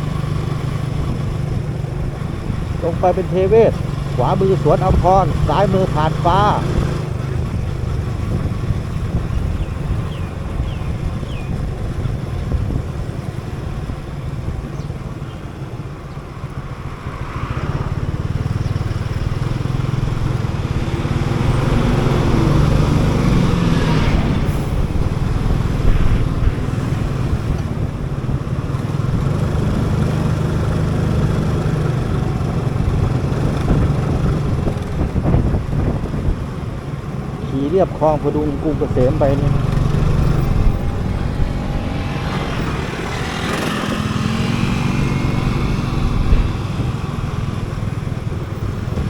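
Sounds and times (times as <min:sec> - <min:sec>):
motorcycle engine running: 0:00.0 - 0:49.0
road noise: 0:00.0 - 0:49.0.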